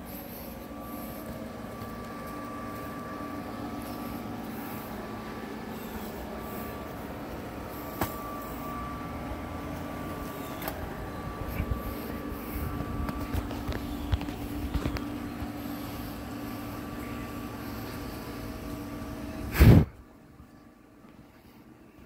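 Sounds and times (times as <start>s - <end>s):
machine hum with low drone: 0.0s - 22.0s.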